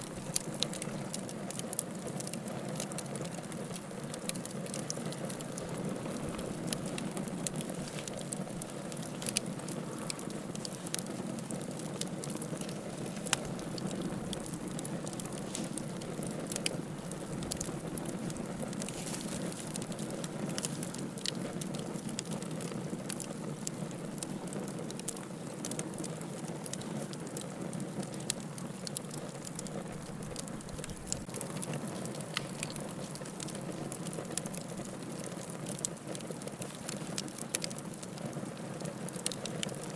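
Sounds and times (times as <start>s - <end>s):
fire rushing: 0.0s - 27.4s, 28.0s - 35.8s
firewood crackling and popping: 0.0s - 39.9s.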